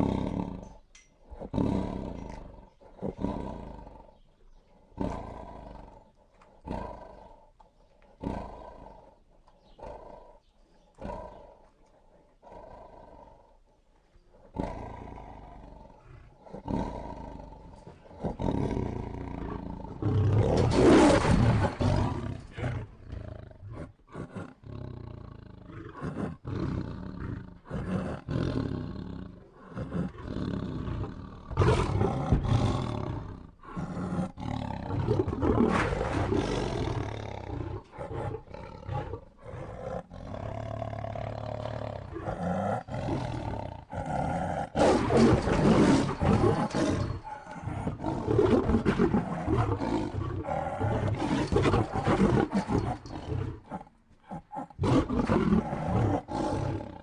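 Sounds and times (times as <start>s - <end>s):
lions roaring and snarling: 0.0s - 4.2s, 4.8s - 7.5s, 8.1s - 11.8s, 14.5s - 57.0s.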